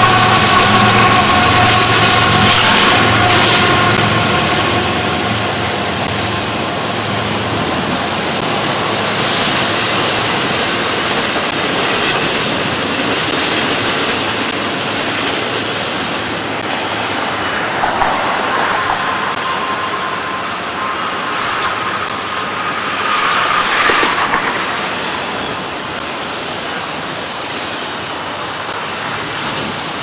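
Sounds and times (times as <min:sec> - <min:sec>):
steel train wheels rolling on rail: 0:00.0 - 0:30.0.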